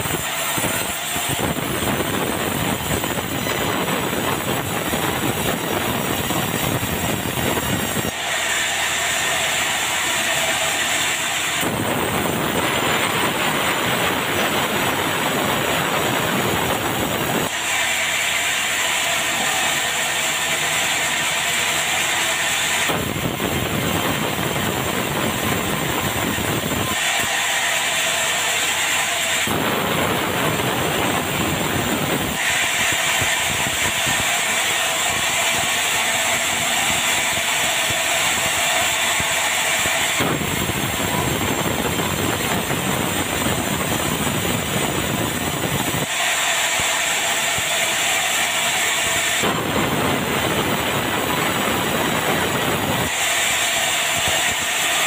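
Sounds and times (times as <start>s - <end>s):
band saw ripping wood: 0.0s - 55.0s.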